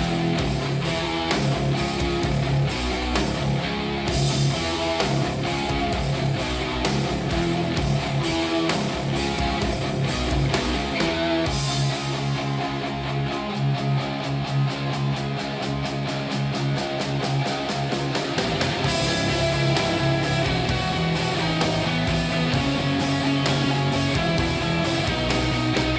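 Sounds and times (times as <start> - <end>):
rock music with guitar: 0.0 - 25.9.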